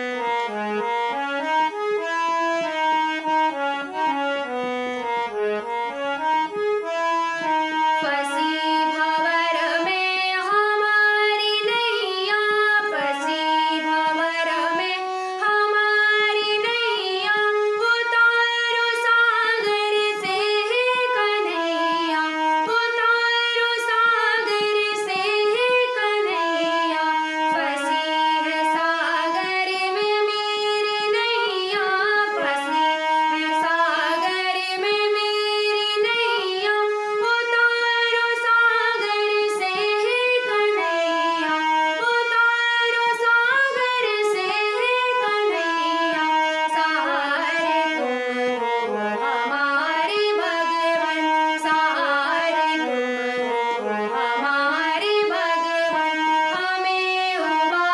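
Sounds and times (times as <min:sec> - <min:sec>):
harmonium chords: 0:00.0 - 0:57.9
woman singing: 0:07.9 - 0:57.9.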